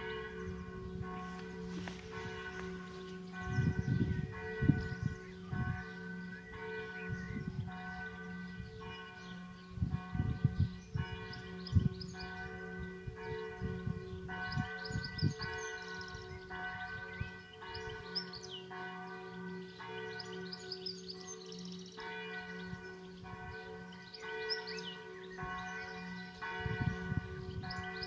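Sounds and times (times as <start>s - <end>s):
birds chirping: 0.0s - 28.0s
church bell ringing: 0.0s - 28.0s.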